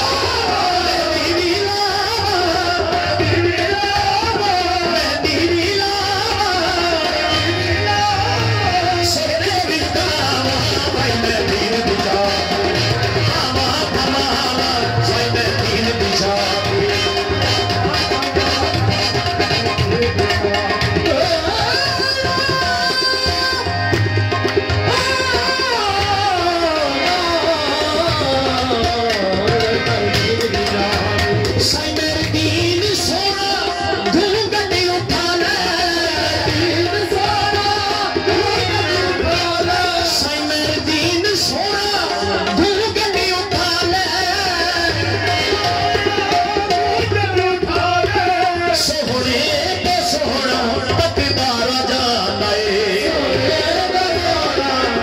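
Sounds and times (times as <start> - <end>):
harmonium: 0.0 - 55.0
lead voice singing: 0.0 - 55.0
tabla drumming: 0.0 - 55.0.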